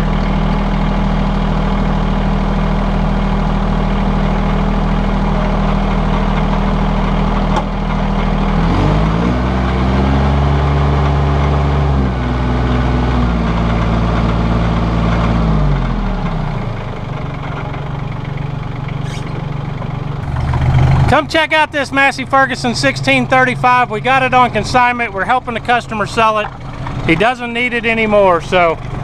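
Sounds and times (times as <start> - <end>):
tractor diesel engine idling and revving: 0.0 - 29.0.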